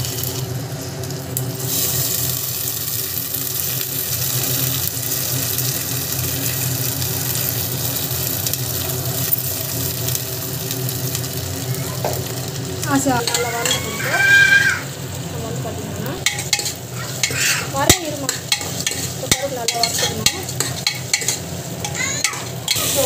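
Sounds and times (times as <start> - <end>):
lentils sizzling in hot oil: 0.0 - 23.0
low mechanical hum: 0.0 - 23.0.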